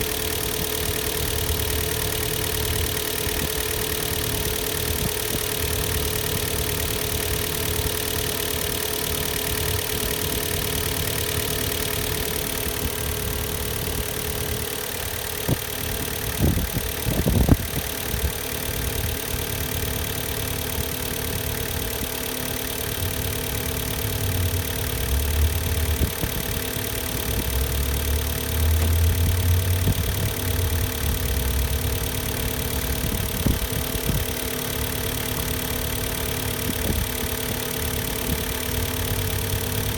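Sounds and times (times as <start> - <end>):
petrol engine idling: 0.0 - 39.9.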